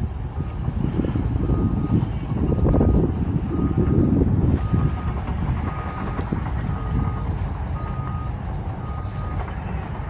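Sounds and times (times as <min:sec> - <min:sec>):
steady low rumble: 0:00.0 - 0:10.0
reversing alarm beeping: 0:01.4 - 0:09.7.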